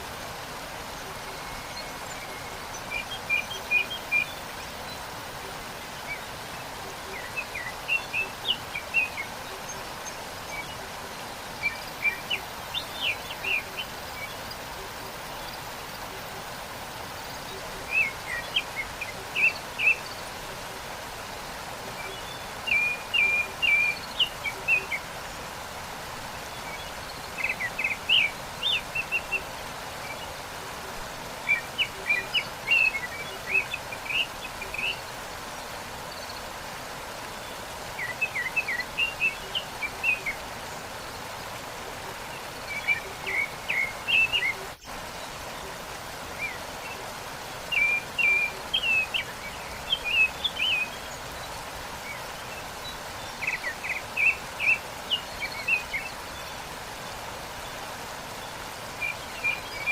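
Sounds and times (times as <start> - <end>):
songbird chirping: 0.0 - 59.9
waterfall rushing: 0.0 - 59.9.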